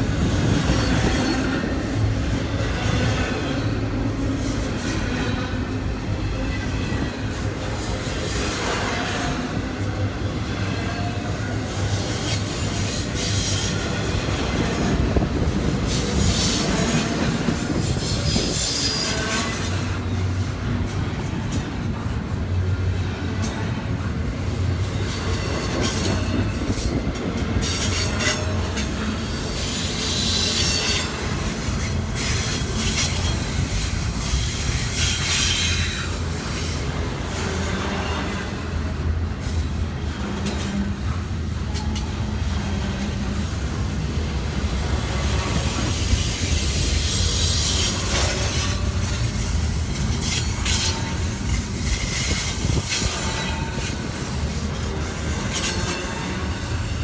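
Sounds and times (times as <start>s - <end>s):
freight train rumbling past: 0.0s - 57.0s
rail joint clicks: 0.0s - 57.0s.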